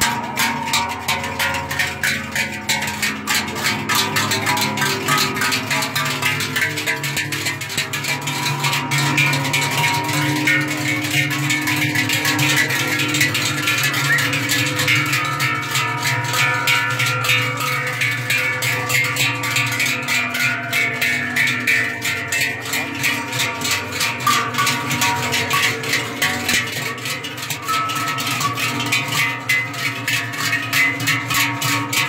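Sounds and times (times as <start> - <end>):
cowbells clanging: 0.0 - 32.0.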